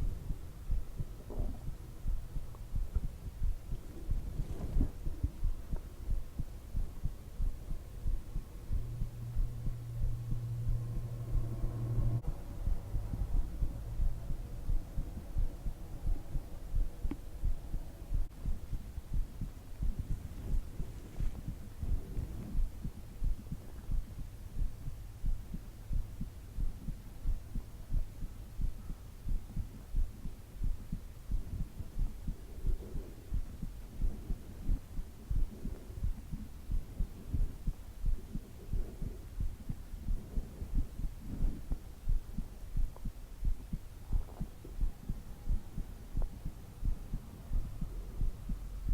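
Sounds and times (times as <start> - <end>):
faint low hum: 0.0 - 48.9
heartbeat thumps: 0.0 - 48.9.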